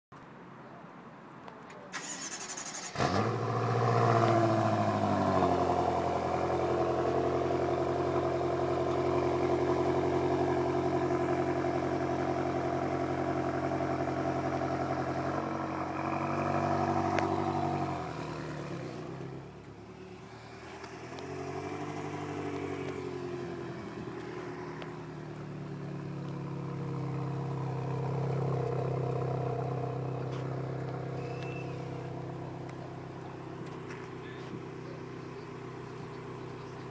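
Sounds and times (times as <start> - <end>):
car engine starting and idling: 1.9 - 36.9.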